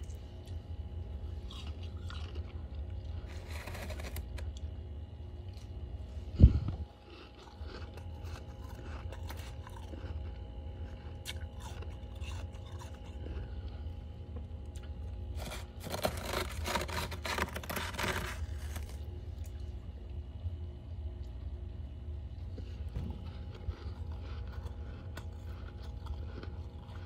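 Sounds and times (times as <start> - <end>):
frost crunching: 0.0 - 5.8, 6.4 - 20.1, 22.6 - 27.0
low steady hum: 0.0 - 27.0.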